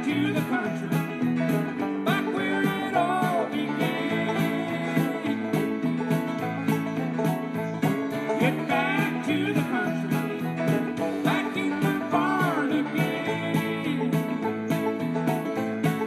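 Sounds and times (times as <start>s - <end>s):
instrumental country music: 0.0s - 16.0s.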